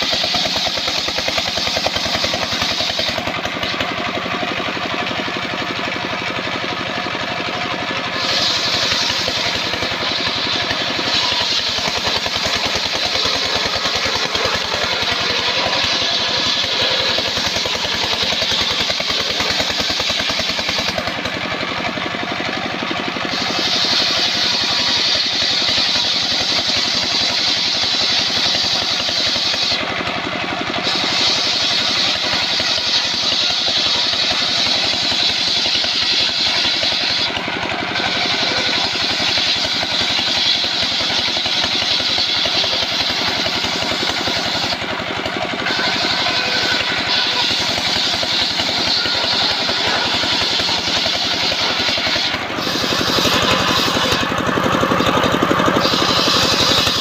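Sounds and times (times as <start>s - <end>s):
circular saw cutting wood: 0.0s - 57.0s
stationary engine running: 0.0s - 57.0s.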